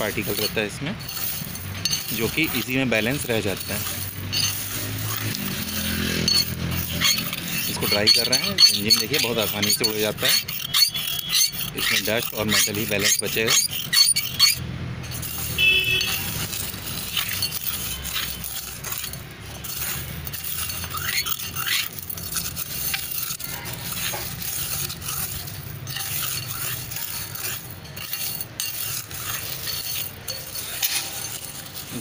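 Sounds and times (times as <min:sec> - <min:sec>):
metal spoon scraping: 0:00.0 - 0:32.0
stone chips rattling in metal bowl: 0:00.0 - 0:32.0.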